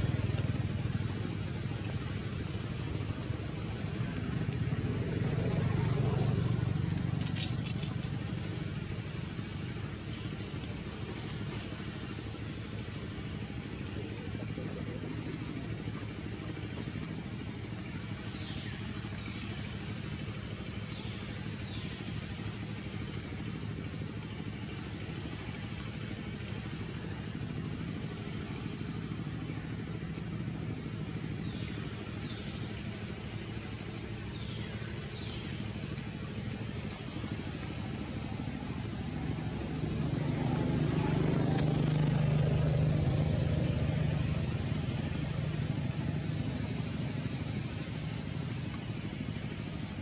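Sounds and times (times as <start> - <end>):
low engine hum: 0.0 - 50.0.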